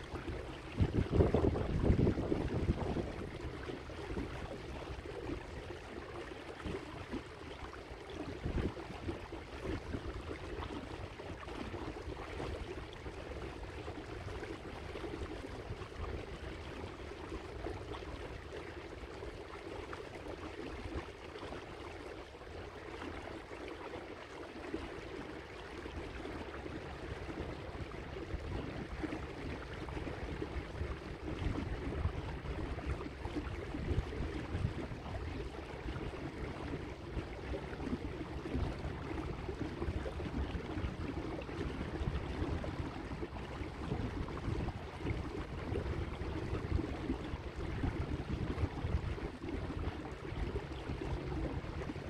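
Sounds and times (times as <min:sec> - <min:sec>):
water lapping along boat hull: 0:00.0 - 0:52.0
wind rumble on microphone: 0:00.0 - 0:52.0.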